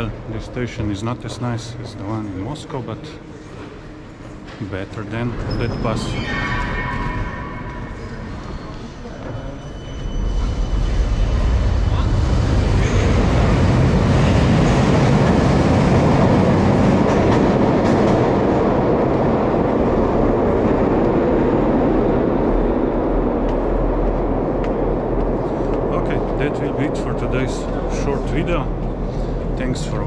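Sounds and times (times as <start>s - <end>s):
tram rumbling through tunnel: 0.0s - 30.0s.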